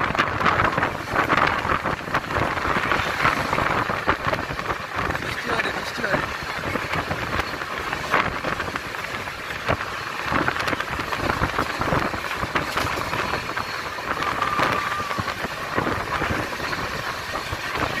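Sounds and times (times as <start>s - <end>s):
wind rush at vehicle window: 0.0s - 18.0s.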